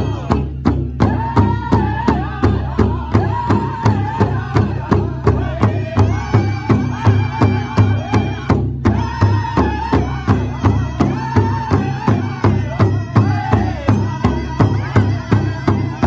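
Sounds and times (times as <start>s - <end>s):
group singing high held voices: 0.0s - 16.0s
large drum steady beat: 0.0s - 16.0s.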